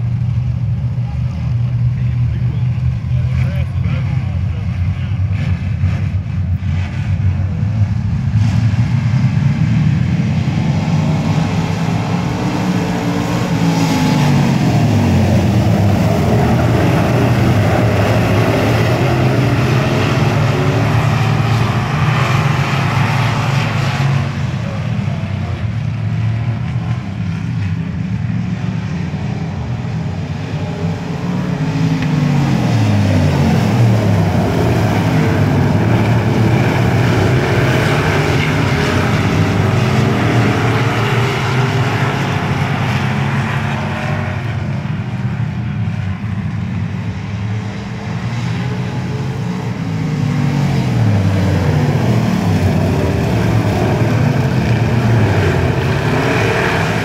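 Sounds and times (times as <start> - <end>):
race car engines roaring: 0.0 - 57.0.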